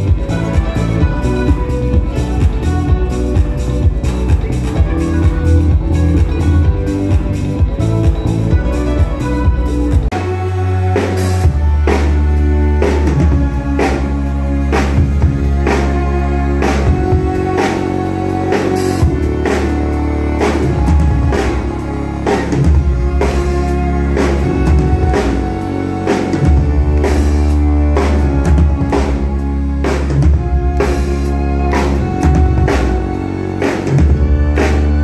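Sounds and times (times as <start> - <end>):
drum kit beat: 0.0 - 35.0
fiddle bowed: 0.0 - 35.0
live band instrumental: 0.0 - 35.0.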